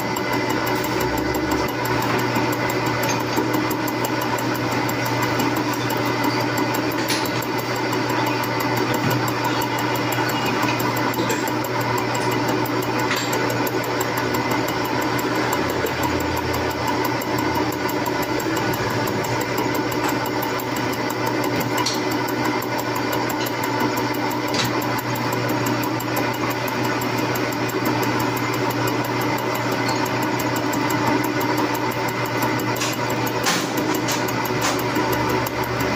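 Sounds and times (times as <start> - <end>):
metal lathe humming: 0.0 - 35.9.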